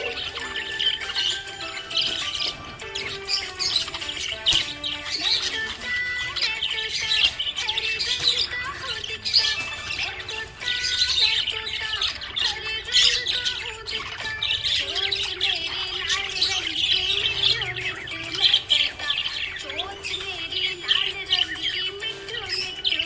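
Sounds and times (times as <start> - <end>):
budgies chirping and squawking: 0.0 - 23.0.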